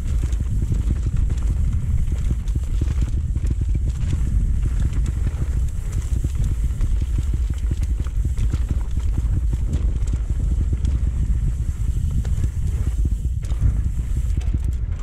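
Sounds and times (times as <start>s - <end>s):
bike clattering over rough ground: 0.0s - 15.0s
wind rumble on microphone: 0.0s - 15.0s.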